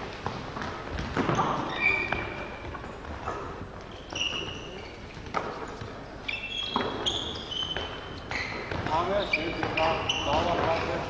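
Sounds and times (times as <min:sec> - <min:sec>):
sneaker squeaks: 0:01.0 - 0:11.0.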